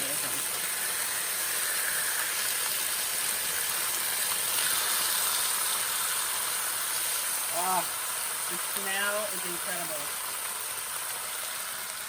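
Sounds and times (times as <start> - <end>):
fish sizzling in a hot pan: 0.0 - 12.0.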